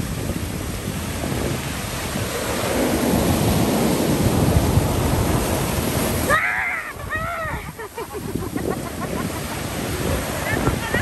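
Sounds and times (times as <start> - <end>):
surf washing over rocks: 0.0 - 11.0
wind rumbling on microphone: 0.0 - 11.0.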